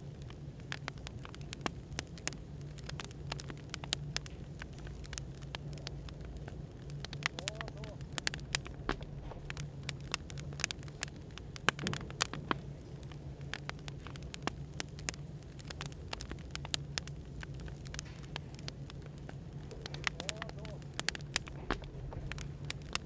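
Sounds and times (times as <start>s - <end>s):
low background white noise: 0.0s - 23.0s
wood fire crackling and popping: 0.0s - 23.0s.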